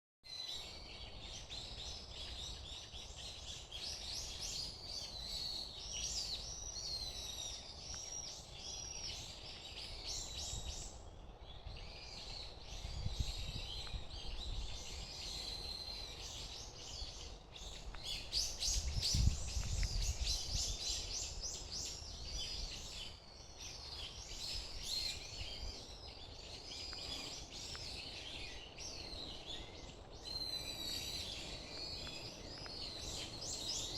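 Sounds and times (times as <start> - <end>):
small birds chirping: 0.3 - 33.9.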